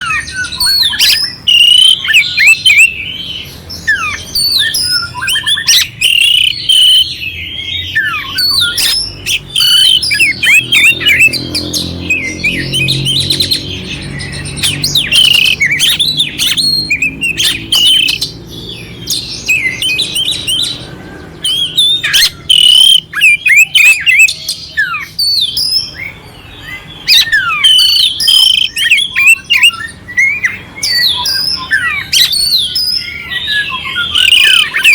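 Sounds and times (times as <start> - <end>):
magpie-robin singing: 0.0 - 34.9.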